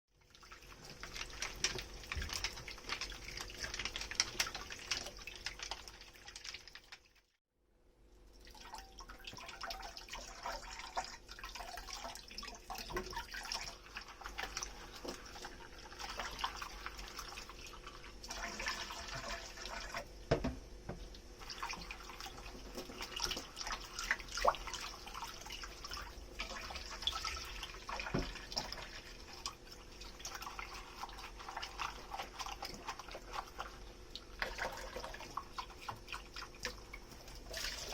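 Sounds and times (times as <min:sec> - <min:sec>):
tap water running and splashing: 0:00.1 - 0:07.4, 0:08.4 - 0:37.9.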